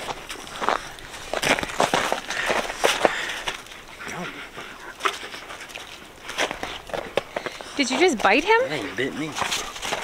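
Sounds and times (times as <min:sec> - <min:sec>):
feet and paws crunching snow: 0:00.0 - 0:10.0.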